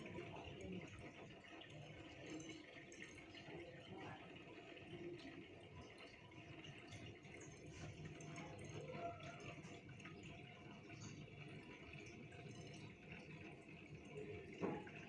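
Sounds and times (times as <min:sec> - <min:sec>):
aquarium water trickling: 0:00.0 - 0:15.0.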